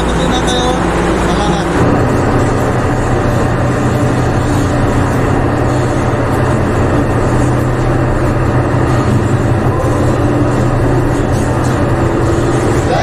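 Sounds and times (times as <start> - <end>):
loud machinery drone: 0.0 - 13.0.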